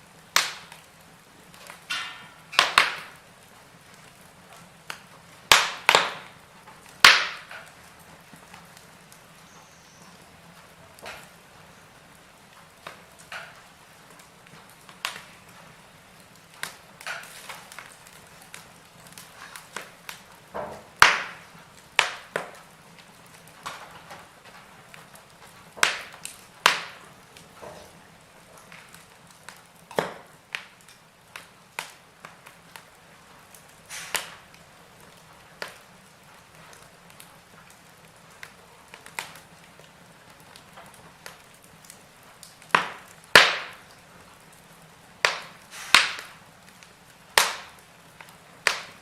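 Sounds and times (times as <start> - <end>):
faint steady hiss: 0.0 - 49.0
logs crackling and popping: 0.0 - 49.0.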